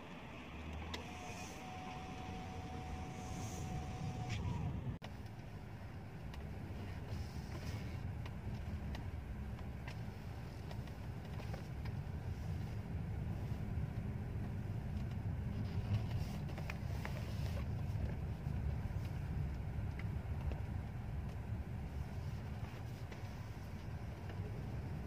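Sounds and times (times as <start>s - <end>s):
car driving rumble inside cabin: 0.0s - 25.0s.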